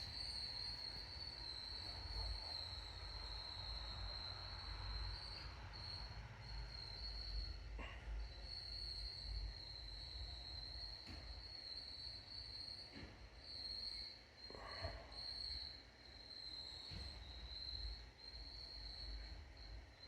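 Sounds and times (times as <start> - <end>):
high-pitched insect trill: 0.0 - 7.6, 8.5 - 20.0.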